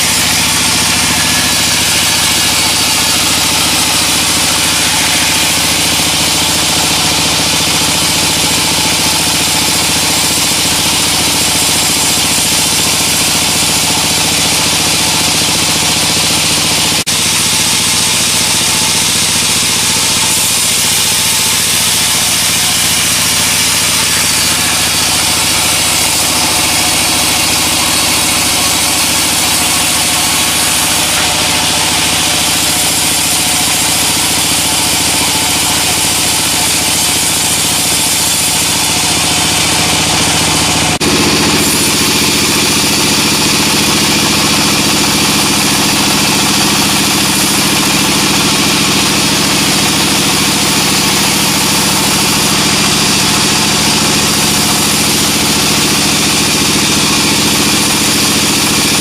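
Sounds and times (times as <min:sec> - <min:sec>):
sawmill machinery drone: 0:00.0 - 0:59.0.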